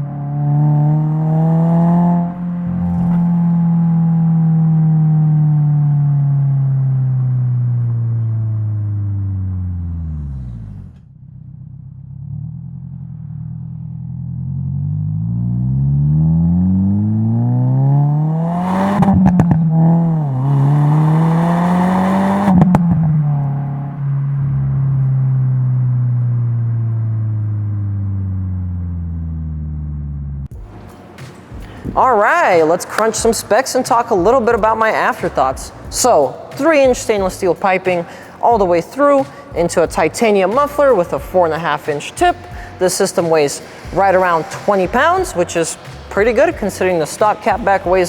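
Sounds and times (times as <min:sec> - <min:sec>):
car engine revving: 0:00.0 - 0:48.0
exhaust cracks: 0:00.0 - 0:48.0.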